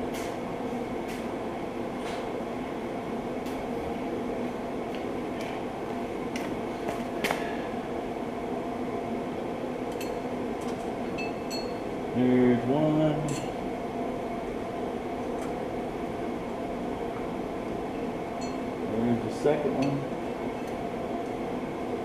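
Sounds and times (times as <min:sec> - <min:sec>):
garage background hum: 0:00.0 - 0:22.0.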